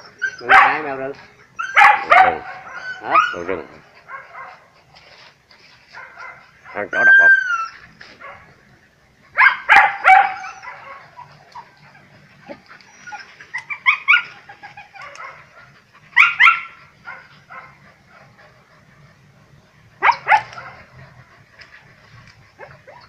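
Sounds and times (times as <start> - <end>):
dogs barking: 0.0 - 4.8, 5.9 - 7.2, 9.3 - 18.7, 20.0 - 23.0.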